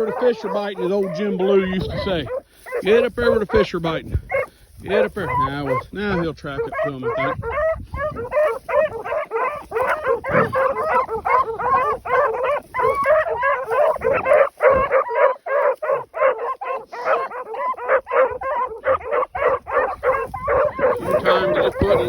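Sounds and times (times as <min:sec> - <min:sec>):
pack of dogs baying: 0:00.0 - 0:22.0.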